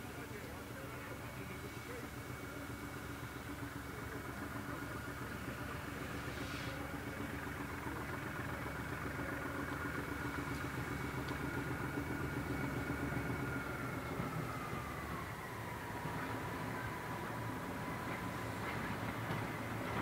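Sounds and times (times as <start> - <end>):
locomotive engine hum with whine: 0.0 - 20.0.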